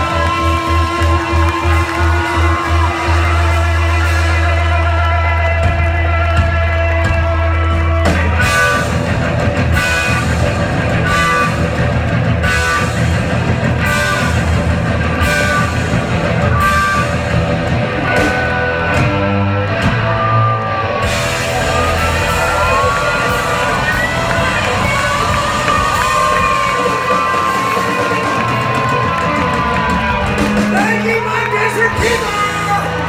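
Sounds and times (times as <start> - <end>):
rock band playing: 0.0 - 33.0.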